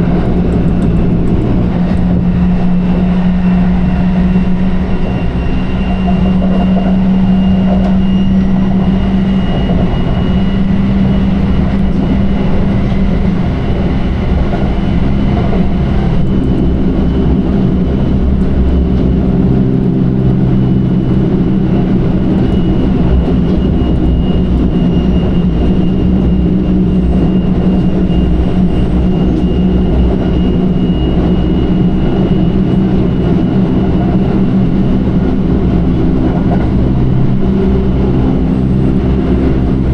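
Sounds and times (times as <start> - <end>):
train motor hum: 0.0 - 39.9
train wheels rumbling on track: 0.0 - 39.9.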